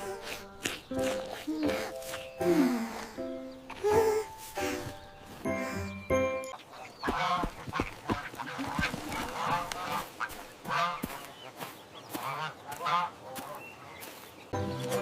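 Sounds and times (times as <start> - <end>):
farm birds honking: 0.0 - 15.0.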